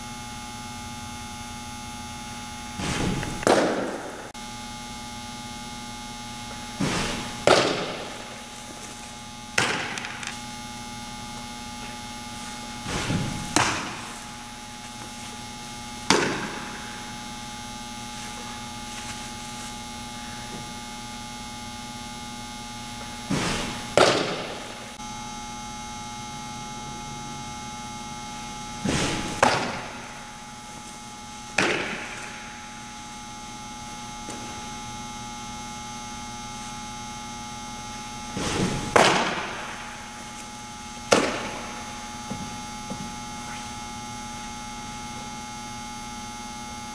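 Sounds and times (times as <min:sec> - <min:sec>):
electrical hum: 0:00.0 - 0:46.9.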